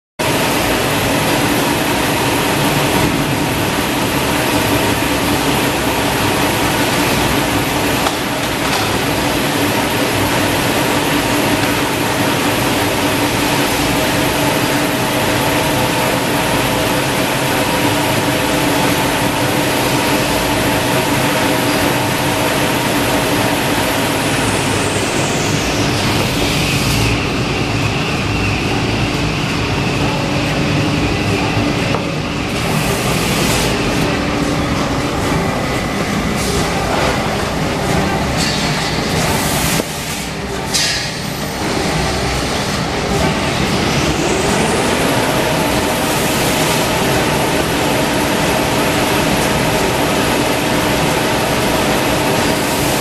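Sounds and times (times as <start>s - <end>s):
high whine falling in pitch: 0.2s - 53.0s
machine hums: 0.2s - 53.0s
machinery din: 0.2s - 53.0s.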